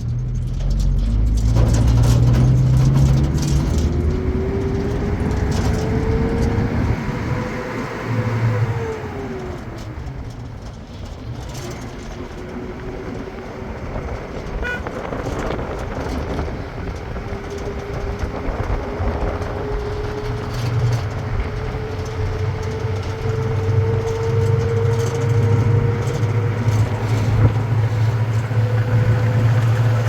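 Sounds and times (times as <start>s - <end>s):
vehicle engine rumble: 0.0s - 30.0s
vehicle whine: 0.0s - 30.0s.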